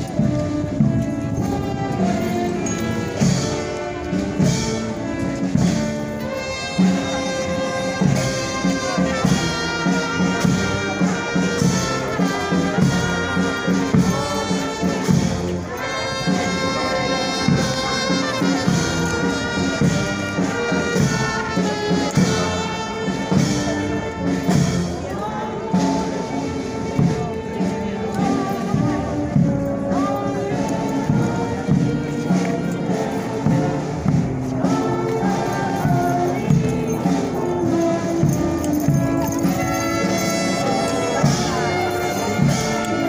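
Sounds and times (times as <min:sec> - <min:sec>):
brass band playing: 0:00.0 - 0:43.0.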